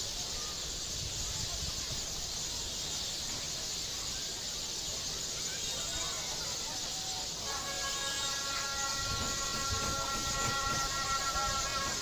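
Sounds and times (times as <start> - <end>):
faint bird chirps: 0.0 - 12.0
high-pitched nature hiss: 0.0 - 12.0.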